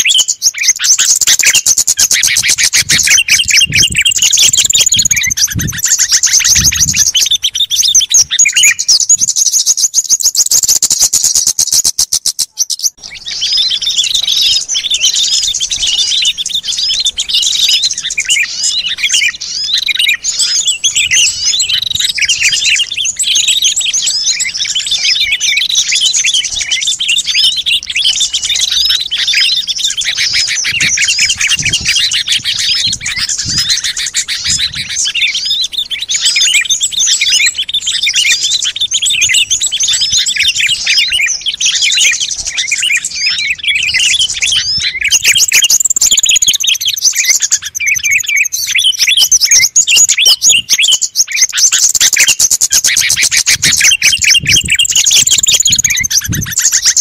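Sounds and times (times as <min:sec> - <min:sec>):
chorus of chirping songbirds: 0:00.0 - 0:57.0
fast buzzy bird trill: 0:00.0 - 0:57.0.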